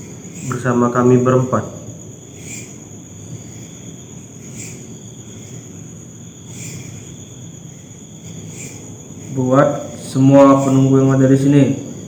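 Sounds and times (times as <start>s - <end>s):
crickets trilling: 0.0s - 12.0s
low background hiss: 0.0s - 12.0s.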